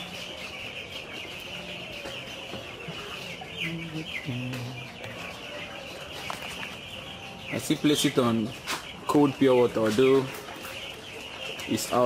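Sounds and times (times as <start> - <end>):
chickens clucking: 0.0 - 12.0
chickens peeping: 0.0 - 12.0.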